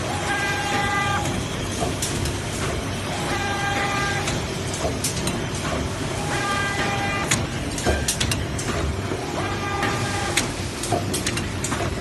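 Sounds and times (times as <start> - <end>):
machine clattering with knocks: 0.0 - 12.0.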